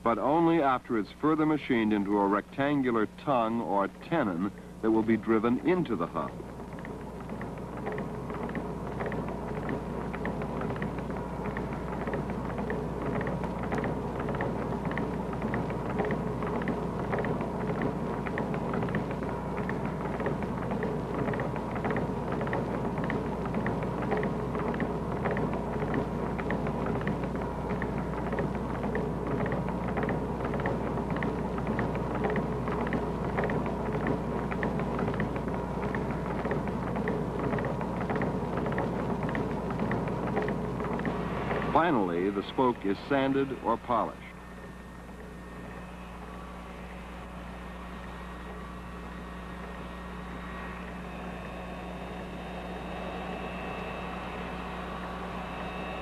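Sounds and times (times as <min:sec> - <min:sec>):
regular mechanical clatter: 0:00.0 - 0:56.0
woodworking machinery running: 0:00.0 - 0:56.0
low hum: 0:03.9 - 0:56.0.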